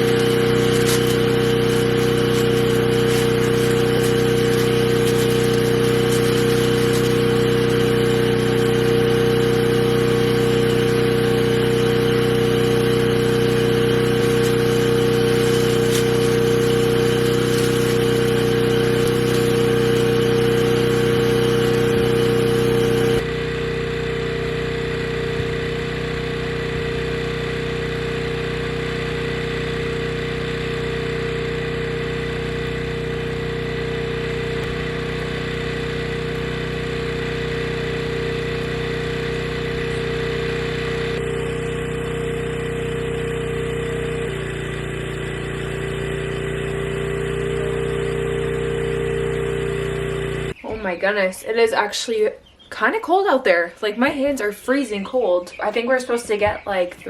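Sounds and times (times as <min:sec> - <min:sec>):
small gasoline engine running: 0:00.0 - 0:50.6.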